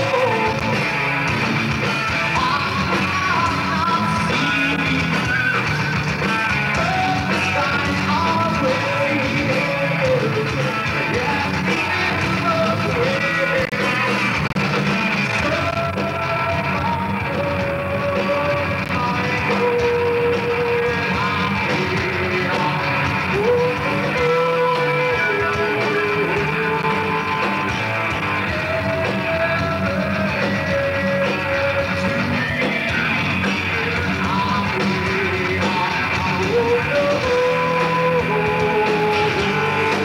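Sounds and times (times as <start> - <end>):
bass: 0.0 - 40.0
drums: 0.0 - 40.0
electric guitars: 0.0 - 40.0.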